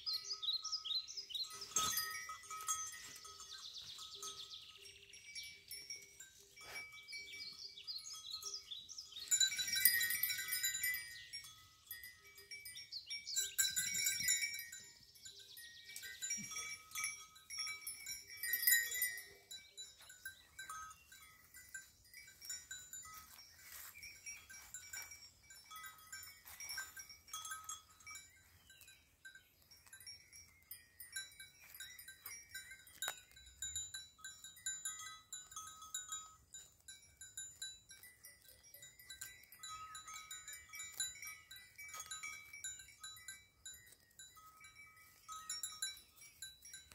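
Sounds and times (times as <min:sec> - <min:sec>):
soft chimes tinkling: 0:00.0 - 0:46.9.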